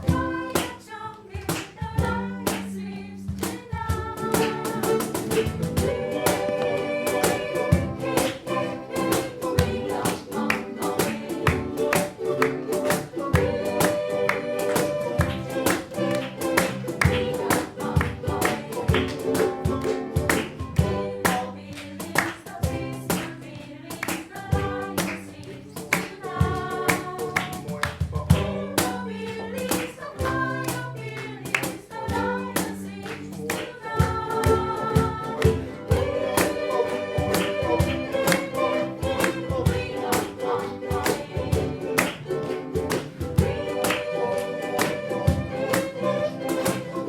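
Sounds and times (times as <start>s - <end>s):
ukulele ensemble playing: 0.0s - 47.0s.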